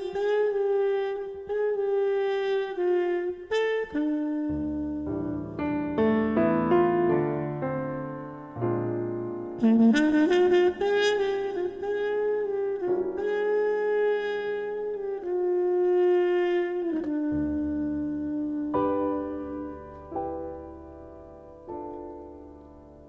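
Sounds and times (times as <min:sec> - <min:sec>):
saxophone melody: 0:00.0 - 0:08.0, 0:08.7 - 0:20.8
piano chords: 0:00.0 - 0:23.0.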